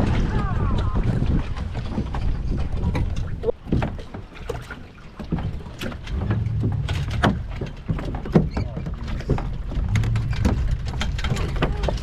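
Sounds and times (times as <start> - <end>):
wind buffeting microphone: 0.0 - 12.0
light clicks and knocks: 1.8 - 12.0.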